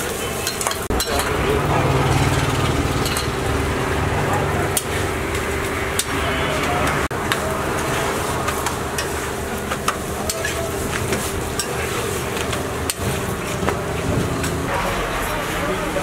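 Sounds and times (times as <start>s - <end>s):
griddle sizzling: 0.0s - 16.0s.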